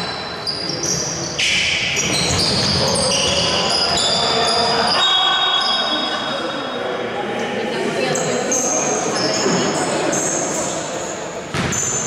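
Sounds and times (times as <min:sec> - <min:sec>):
players' voices echoing: 0:00.0 - 0:12.0.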